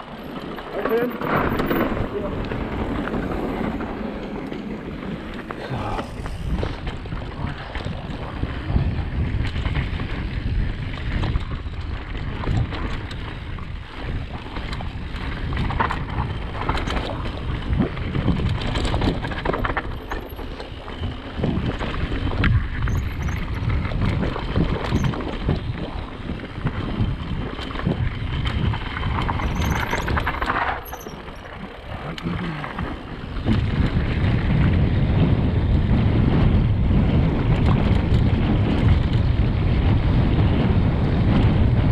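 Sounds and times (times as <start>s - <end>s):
bike knocking and clattering: 0.0s - 5.7s, 6.3s - 41.9s
wind buffeting microphone: 0.0s - 41.9s.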